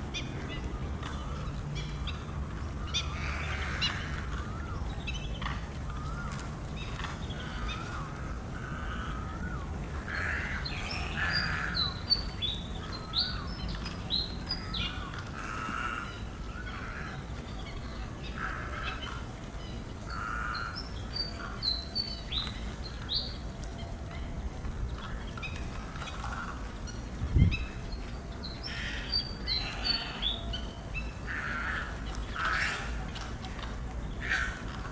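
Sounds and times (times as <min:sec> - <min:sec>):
lower bird calls: 0:00.1 - 0:34.9.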